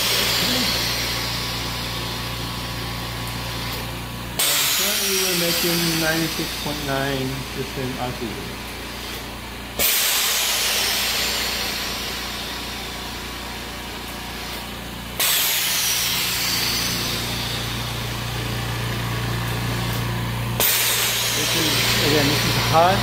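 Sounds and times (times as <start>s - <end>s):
compressor hum: 0.0s - 23.0s.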